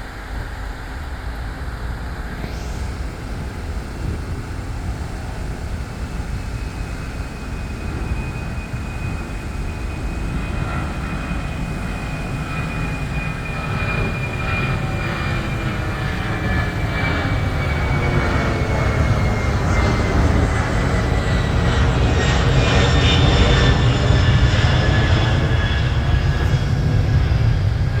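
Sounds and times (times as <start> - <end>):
jet engines at high power: 0.0 - 28.0.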